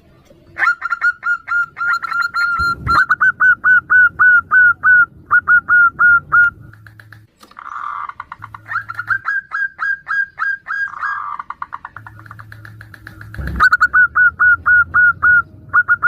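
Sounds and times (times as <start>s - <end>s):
doves calling: 0.0s - 16.0s.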